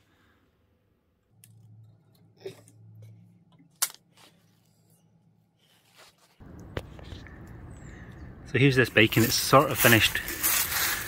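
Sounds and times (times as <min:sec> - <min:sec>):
low hum: 0:00.2 - 0:09.5.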